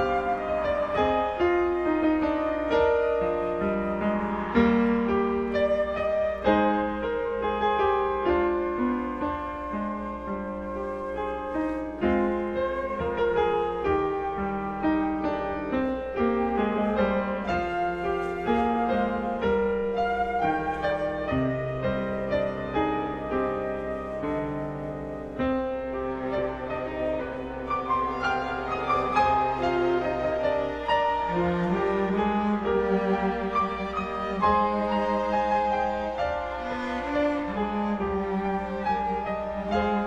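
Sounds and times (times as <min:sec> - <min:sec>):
grand piano playing: 0:00.0 - 0:40.0.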